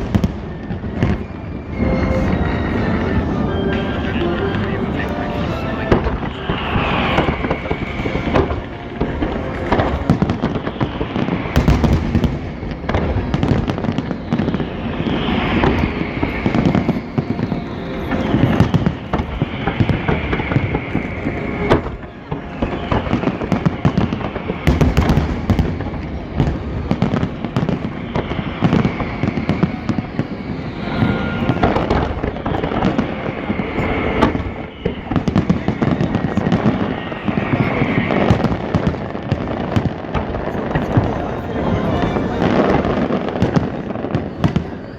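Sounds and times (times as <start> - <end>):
fireworks booming and crackling: 0.0 - 44.9
falling high tones: 0.6 - 12.5, 13.8 - 39.4.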